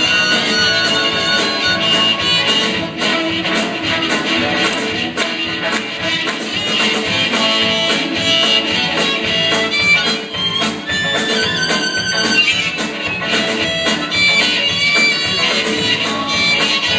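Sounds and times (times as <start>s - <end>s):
drum kit: 0.0s - 16.9s
electric guitars: 0.0s - 16.9s.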